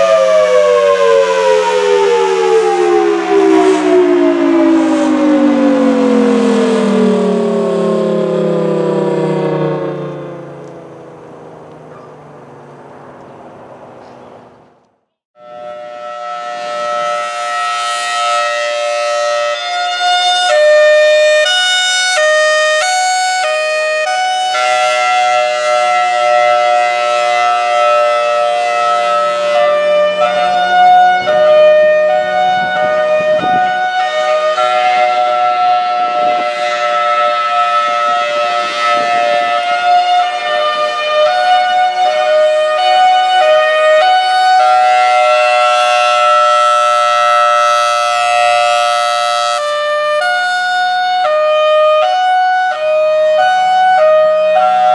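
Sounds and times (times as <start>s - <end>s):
two-tone warning siren: 0.0s - 14.8s, 15.4s - 54.9s.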